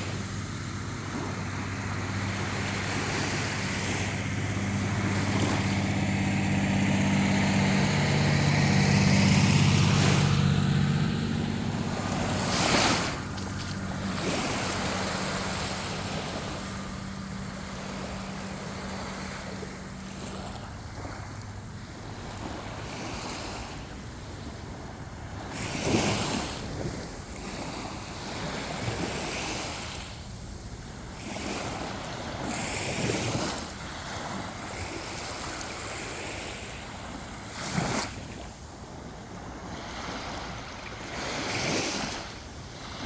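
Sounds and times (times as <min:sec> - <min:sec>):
low motor hum: 0:00.0 - 0:43.0
sea waves washing onto beach: 0:00.0 - 0:43.0.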